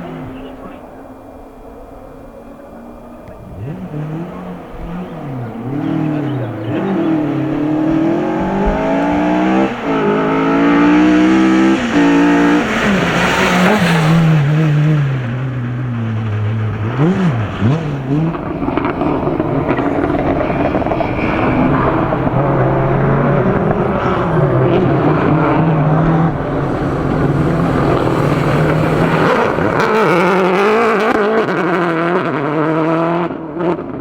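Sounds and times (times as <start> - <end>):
rally car engine revving: 0.0 - 34.0
rushing noise of passing car: 0.0 - 34.0.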